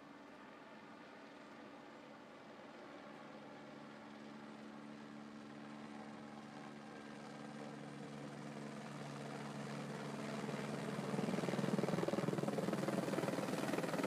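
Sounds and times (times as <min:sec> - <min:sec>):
helicopter engine and rotor: 0:01.2 - 0:14.0.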